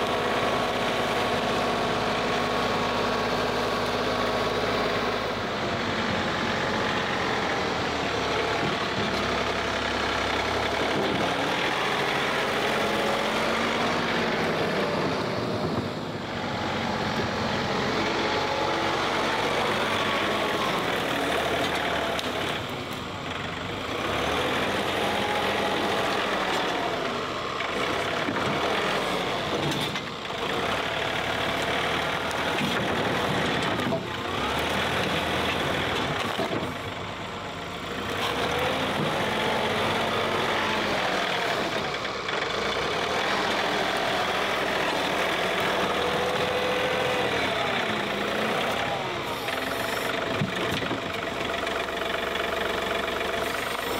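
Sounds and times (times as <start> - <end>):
diesel tractor running under load: 0.0 - 53.9.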